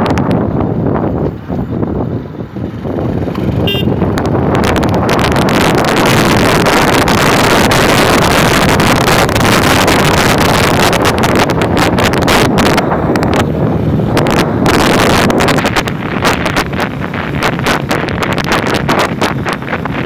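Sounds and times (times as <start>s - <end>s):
motorcycle engine: 0.0s - 20.0s
road noise: 0.0s - 20.0s
wind buffeting microphone: 0.0s - 20.0s.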